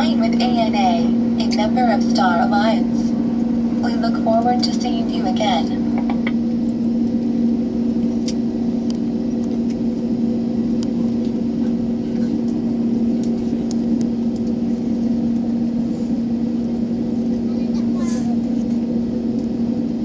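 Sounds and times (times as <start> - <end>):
airliner cabin hum: 0.0 - 20.0.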